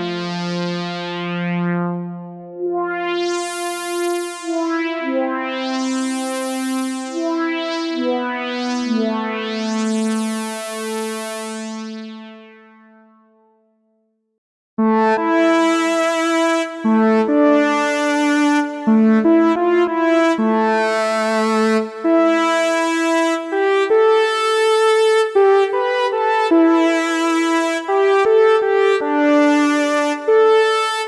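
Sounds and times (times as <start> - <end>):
synthesizer chords with filter sweep: 0.0 - 12.0, 14.8 - 31.0.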